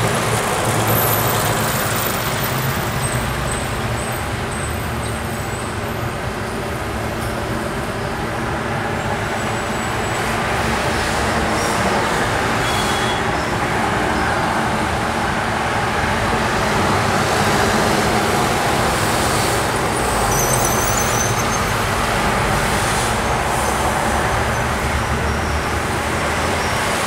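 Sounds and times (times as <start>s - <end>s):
road traffic hiss: 0.0s - 27.0s.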